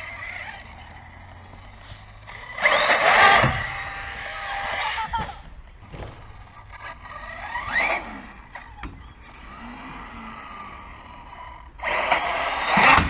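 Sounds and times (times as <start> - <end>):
electric motor whining: 0.0 - 13.0
toy truck rushing over concrete: 0.0 - 13.0.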